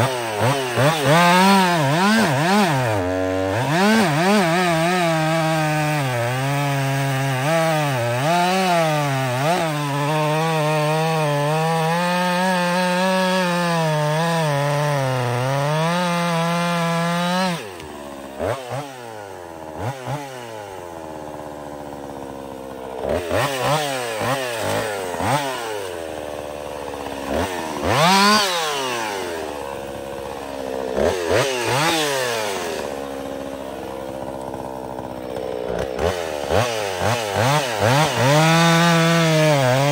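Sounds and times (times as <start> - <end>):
chainsaw cutting and revving: 0.0 - 39.9.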